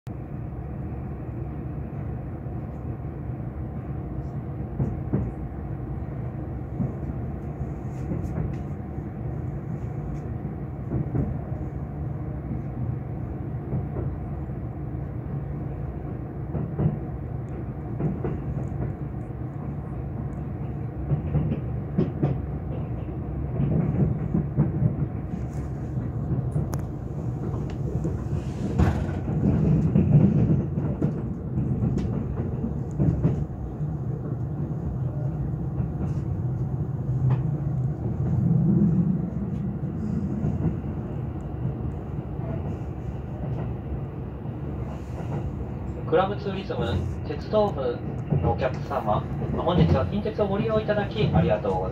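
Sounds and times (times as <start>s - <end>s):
train cabin rumble: 0.2s - 51.9s.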